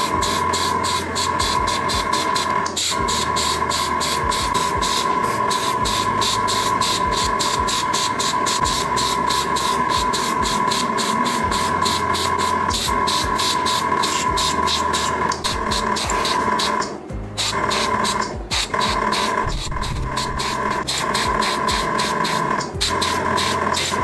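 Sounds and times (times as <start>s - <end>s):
electronic music with fast beat: 0.0s - 24.0s.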